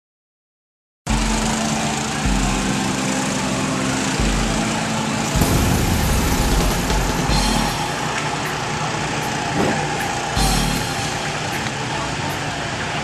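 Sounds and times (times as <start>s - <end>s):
go-kart engines droning: 1.1s - 13.0s.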